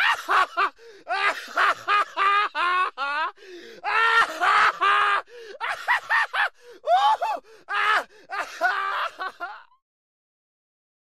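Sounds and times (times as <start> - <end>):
man sobbing and groaning: 0.0 - 9.8.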